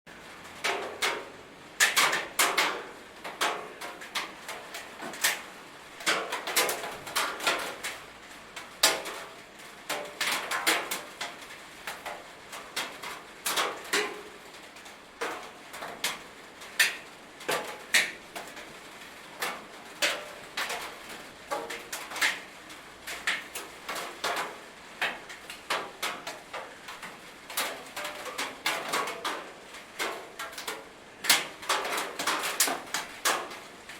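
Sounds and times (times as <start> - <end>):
faint rain patter: 0.1 - 33.9
raindrops pinging on metal roof: 0.1 - 33.9.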